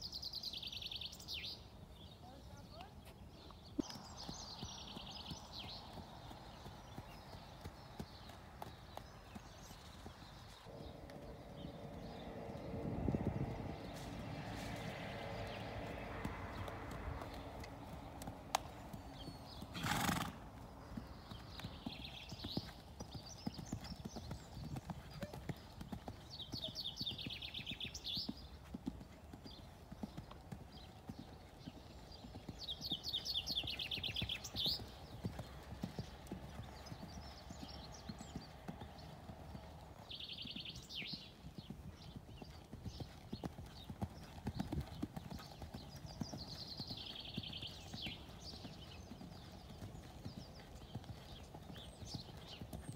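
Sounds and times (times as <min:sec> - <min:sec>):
horse hooves on sand: 0:02.4 - 0:52.9.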